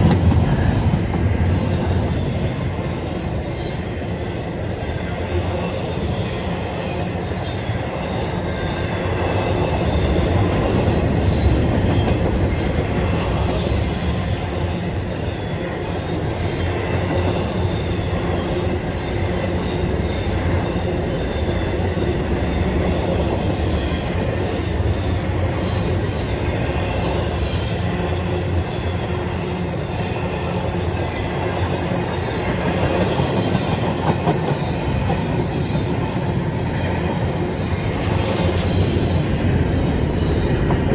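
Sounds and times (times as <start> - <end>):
freight train cars rolling: 0.0 - 40.9.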